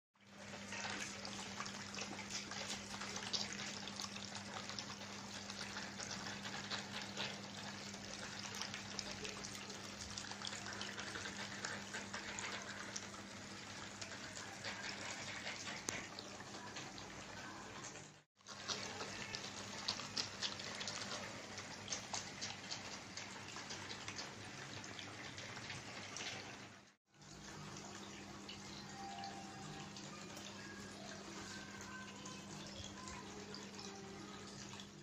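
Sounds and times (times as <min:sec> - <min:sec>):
water trickling and splashing: 0:00.2 - 0:35.0.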